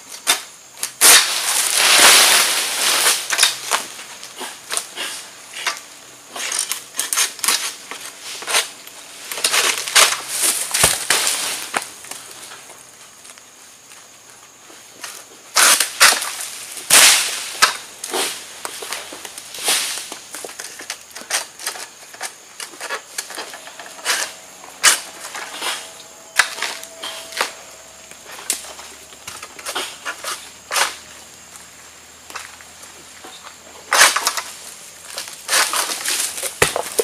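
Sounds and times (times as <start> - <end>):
sickle cutting palm stalk: 0.1 - 12.7, 15.0 - 31.2, 33.2 - 37.0.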